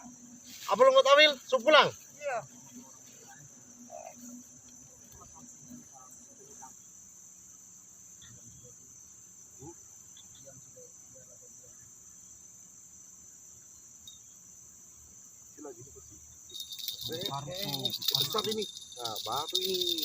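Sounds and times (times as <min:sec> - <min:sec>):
faint scattered sounds: 0:00.0 - 0:20.0
insect chorus droning: 0:00.0 - 0:20.0.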